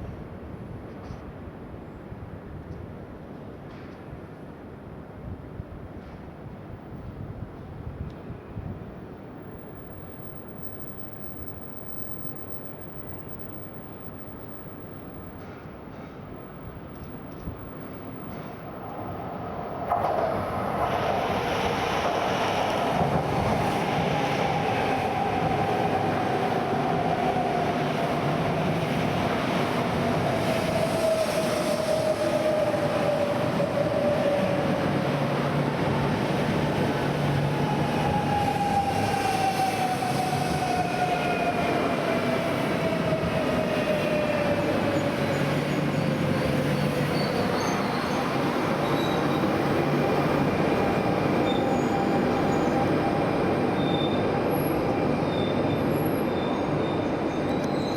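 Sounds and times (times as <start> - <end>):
train rail noise: 3.2 - 57.9.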